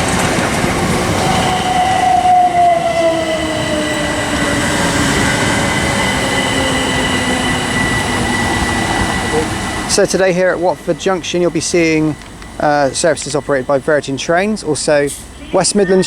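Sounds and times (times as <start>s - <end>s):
electric train motor whine: 0.0s - 16.0s
wheels rumbling on track: 0.0s - 16.0s
steady high-pitched tone: 0.9s - 16.0s.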